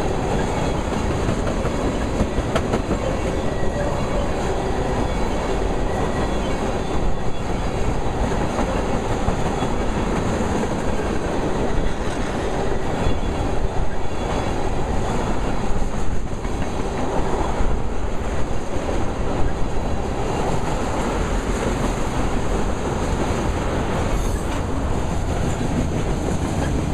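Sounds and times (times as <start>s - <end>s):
train wheels clacking: 0.0s - 17.6s, 20.2s - 26.9s
steel train wheels rumbling: 0.0s - 26.9s.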